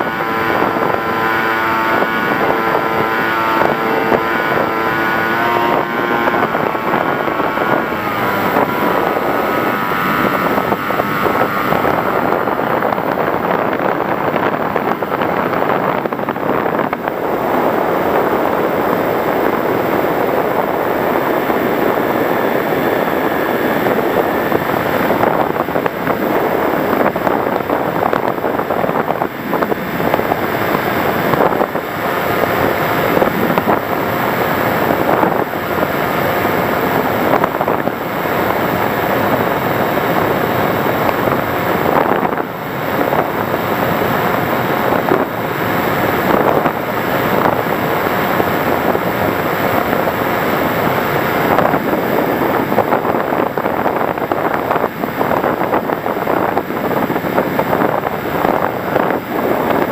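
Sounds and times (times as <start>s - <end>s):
model aircraft motor: 0.0s - 59.9s
wind rushing over microphone: 0.0s - 59.9s.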